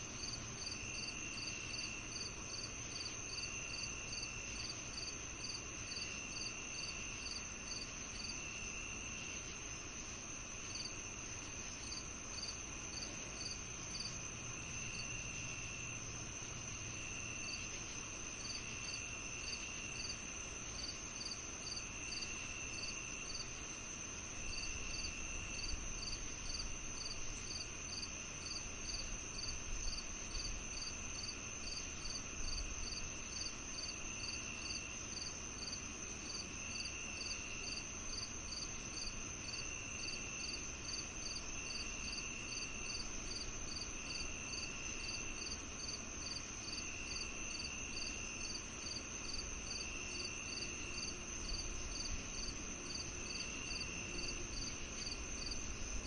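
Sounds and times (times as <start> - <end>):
steady high insect trill: 0.0 - 56.0.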